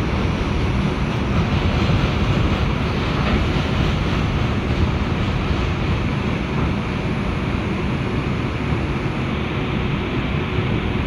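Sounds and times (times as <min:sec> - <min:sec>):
subway train rumbling on track: 0:00.0 - 0:11.0.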